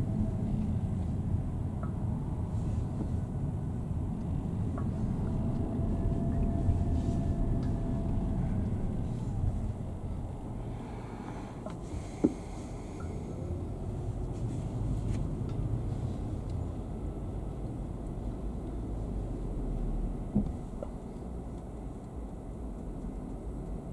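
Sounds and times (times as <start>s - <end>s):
vehicle engine and road noise: 0.0s - 23.9s.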